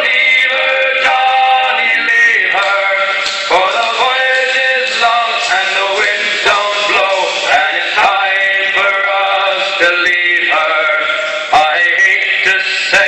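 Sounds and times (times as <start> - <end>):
music with man singing: 0.0 - 13.0.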